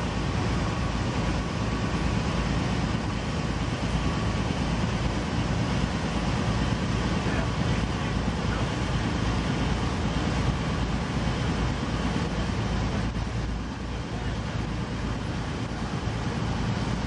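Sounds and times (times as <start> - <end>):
boat engine rumble: 0.0 - 17.0
water: 0.0 - 17.0
wind: 0.0 - 17.0.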